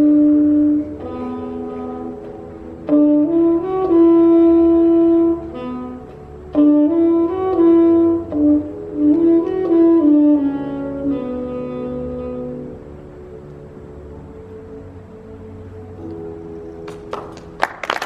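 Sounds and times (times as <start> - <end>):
tenor saxophone slow melody: 0.0 - 17.6.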